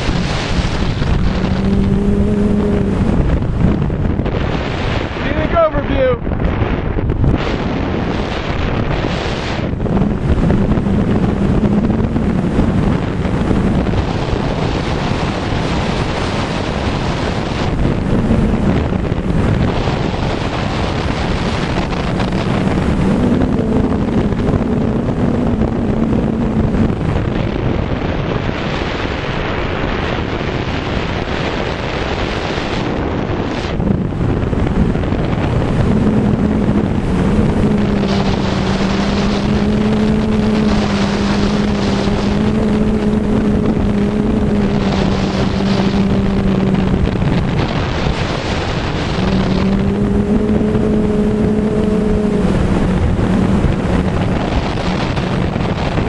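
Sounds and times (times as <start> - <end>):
low vehicle hum: 0.0 - 56.0
wind buffeting microphone: 0.0 - 56.0.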